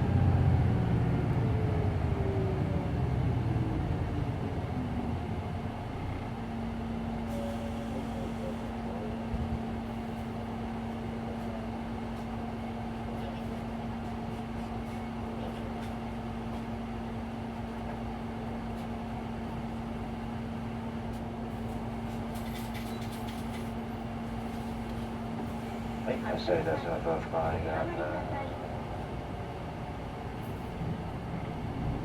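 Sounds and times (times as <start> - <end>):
bus interior hum: 0.0 - 32.0.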